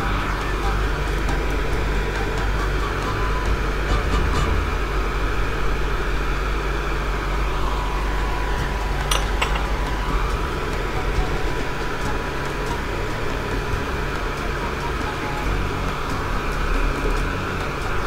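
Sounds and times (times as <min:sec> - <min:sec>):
electric cooktop hum and hiss: 0:00.0 - 0:18.0.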